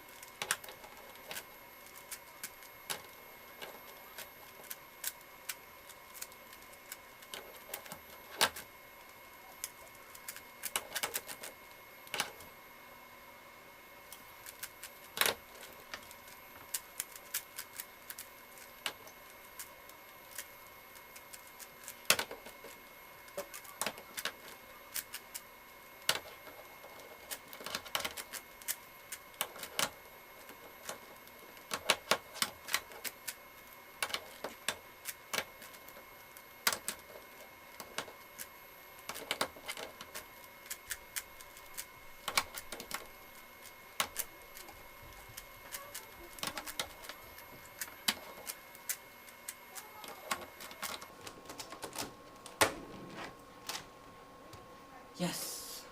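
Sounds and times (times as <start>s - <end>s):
faint high whine: 0.0s - 55.9s.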